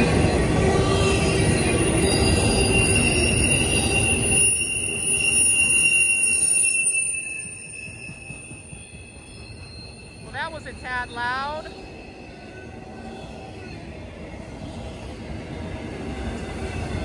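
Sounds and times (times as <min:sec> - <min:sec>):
freight train wheels rumbling: 0:00.0 - 0:17.0
high wheel squeal: 0:00.1 - 0:13.9.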